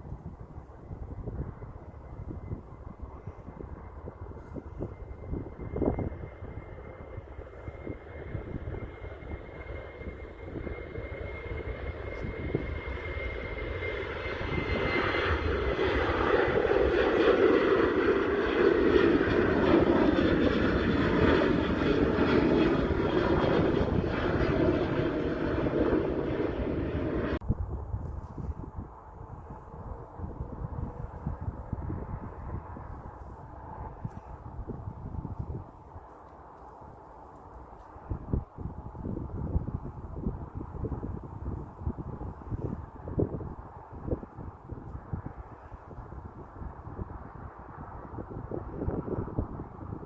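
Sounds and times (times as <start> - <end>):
jet airliner engine whine: 0.0 - 50.0.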